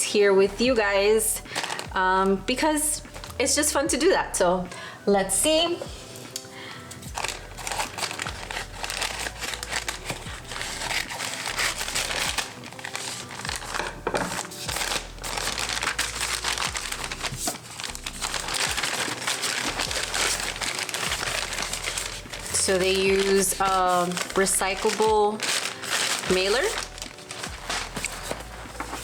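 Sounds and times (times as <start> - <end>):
soft background music: 0.0 - 29.0
packaging crinkling and rustling: 1.4 - 2.4, 5.5 - 29.0.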